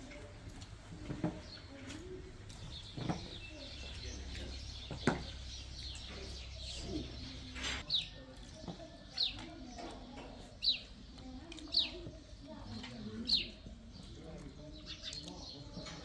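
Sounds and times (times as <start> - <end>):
small bird chirping: 1.2 - 16.0.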